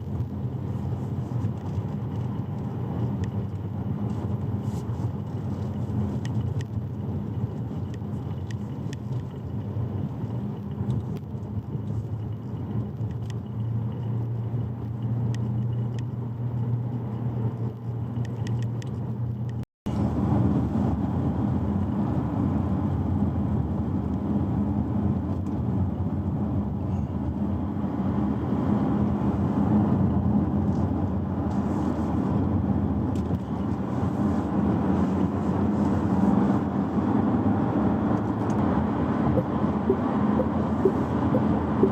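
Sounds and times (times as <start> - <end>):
car road and running noise: 0.0 - 41.9.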